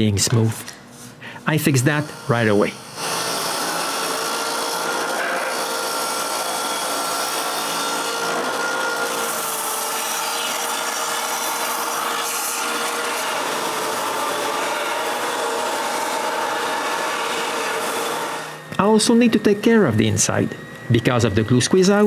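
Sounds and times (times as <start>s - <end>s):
power sander sanding wood: 1.4s - 22.0s.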